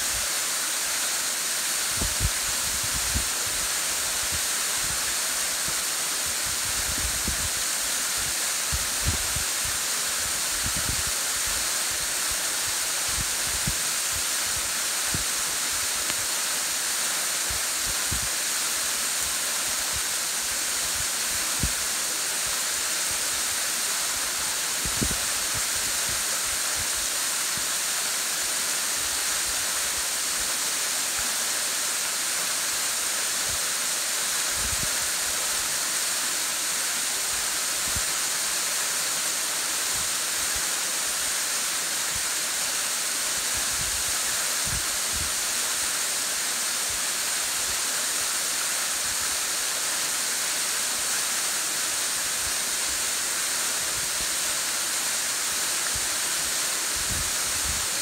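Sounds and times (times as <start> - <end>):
waterfall splashing into pool: 0.0 - 58.0.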